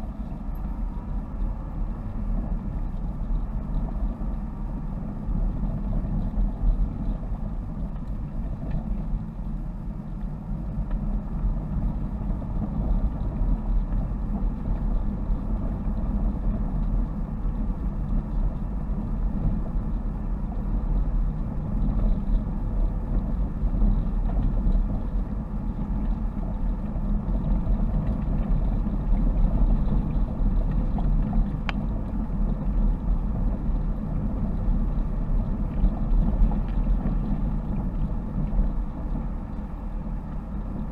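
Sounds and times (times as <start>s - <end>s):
car engine drone: 0.0s - 40.9s.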